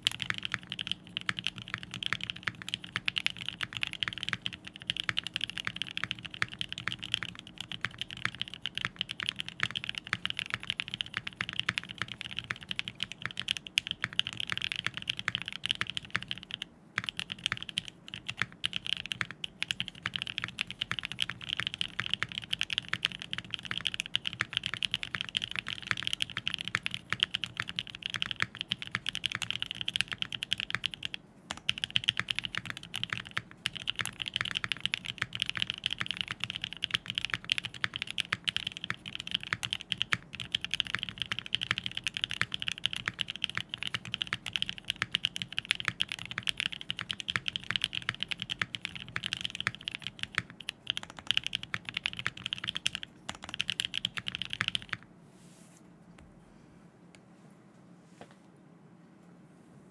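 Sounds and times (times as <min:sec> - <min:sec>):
fast mechanical keyboard typing: 0:00.0 - 0:55.0.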